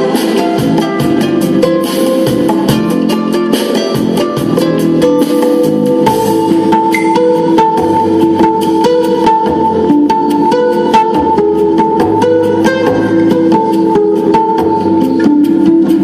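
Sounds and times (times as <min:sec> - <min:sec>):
drums: 0:00.0 - 0:16.0
strummed guitar: 0:00.0 - 0:16.0.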